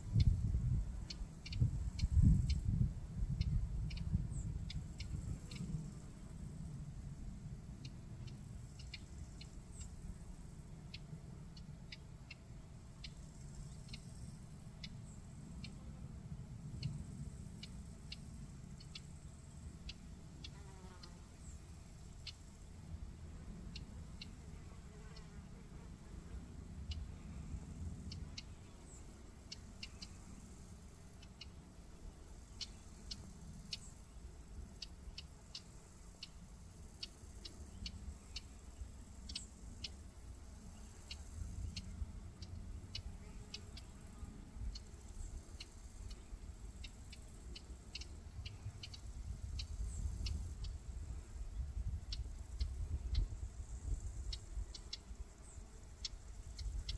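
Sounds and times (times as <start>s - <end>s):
bird ticking calls: 0.1s - 6.8s, 7.7s - 56.9s.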